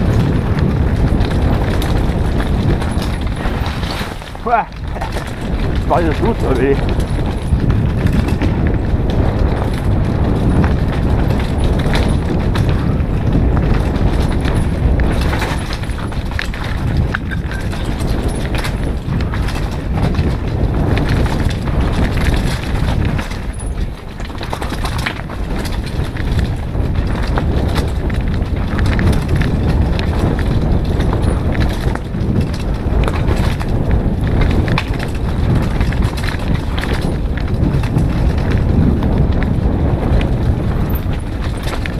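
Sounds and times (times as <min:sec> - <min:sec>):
bike rattling and knocking: 0:00.0 - 0:41.9
tyres rolling over gravel: 0:00.0 - 0:41.9
wind buffeting microphone: 0:00.0 - 0:41.9.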